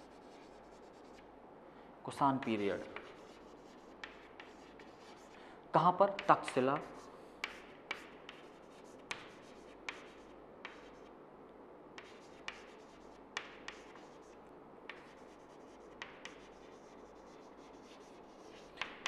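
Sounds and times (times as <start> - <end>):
chalk tapping and scratching: 0.0 - 1.3, 2.4 - 5.4, 6.1 - 11.1, 12.0 - 19.0.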